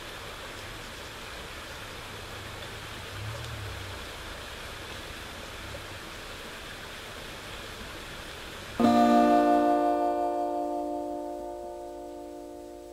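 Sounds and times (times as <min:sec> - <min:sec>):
rain hissing: 0:00.0 - 0:12.9.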